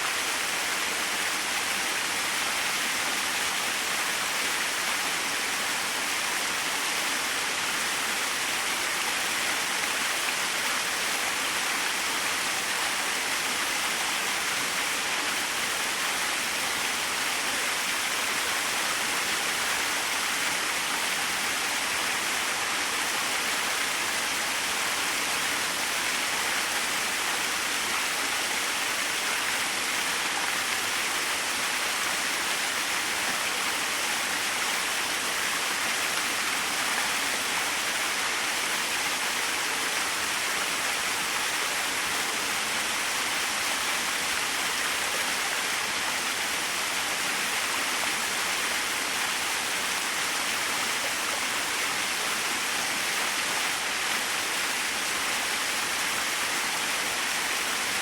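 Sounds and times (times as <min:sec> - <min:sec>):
small waterfall splashing: 0:00.0 - 0:58.0.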